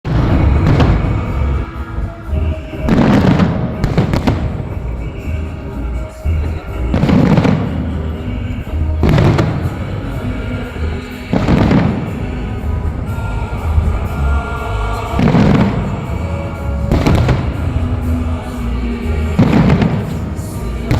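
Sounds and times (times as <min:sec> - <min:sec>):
fireworks booming: 0:00.1 - 0:20.9
steady music: 0:00.1 - 0:20.9.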